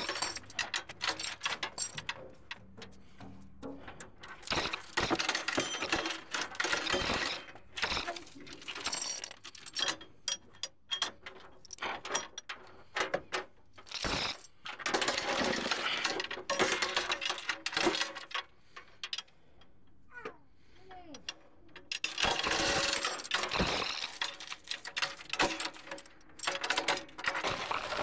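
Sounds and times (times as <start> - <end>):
steel chain clinking and rattling: 0.0 - 19.7, 21.0 - 28.0.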